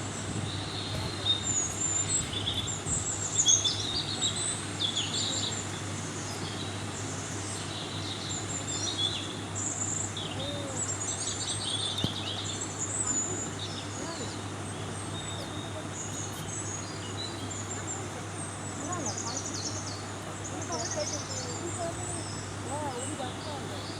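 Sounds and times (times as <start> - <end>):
birds chirping and singing: 0.3 - 23.9.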